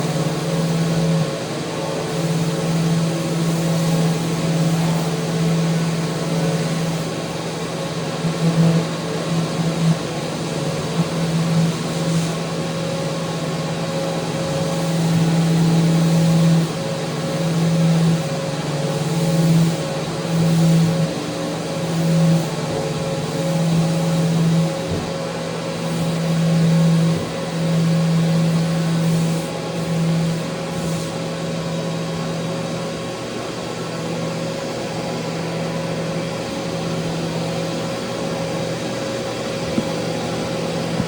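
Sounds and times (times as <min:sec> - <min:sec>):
power sander on wood: 0:00.0 - 0:41.0.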